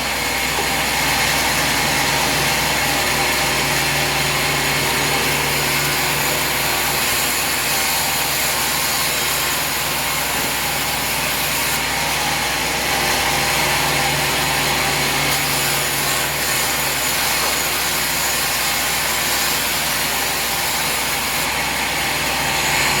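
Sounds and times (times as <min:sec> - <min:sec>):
saw cutting through log: 0:00.0 - 0:23.0.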